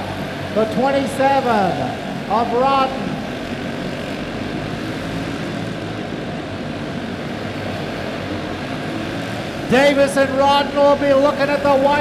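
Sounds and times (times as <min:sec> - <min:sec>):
kart engines racing: 0:00.0 - 0:12.0.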